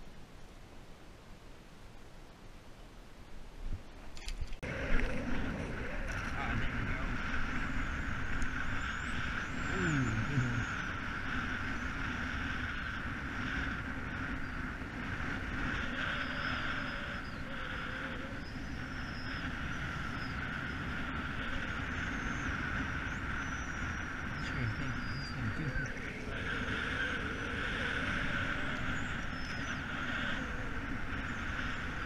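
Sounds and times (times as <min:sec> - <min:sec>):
constant mid-pitched hum: 0:00.0 - 0:32.0.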